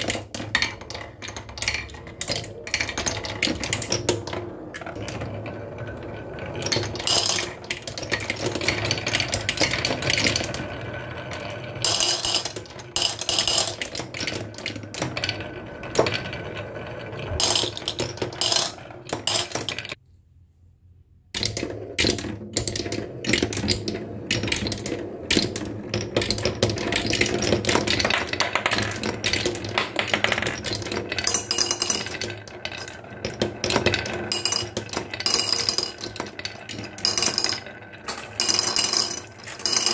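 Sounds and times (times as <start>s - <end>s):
marbles clicking on wooden blocks: 0.0s - 20.0s, 21.4s - 39.9s
marbles rolling on wooden track: 0.0s - 20.0s, 21.4s - 39.9s.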